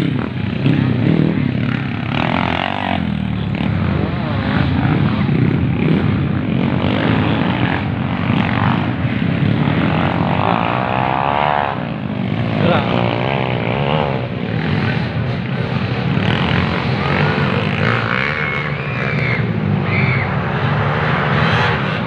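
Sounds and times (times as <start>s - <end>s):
motorcycle engines droning: 0.0s - 22.0s.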